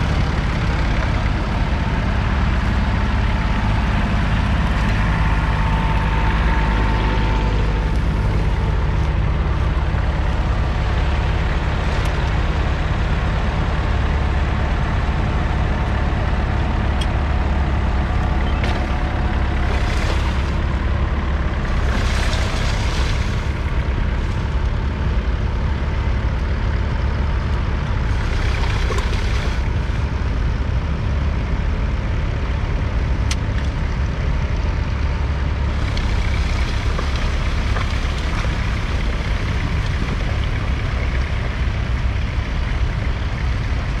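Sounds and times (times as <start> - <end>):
diesel tractor engine droning: 0.0 - 44.0.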